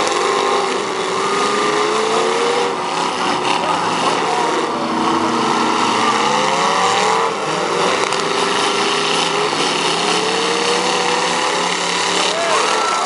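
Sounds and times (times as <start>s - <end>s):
car engines revving together: 0.0s - 13.0s.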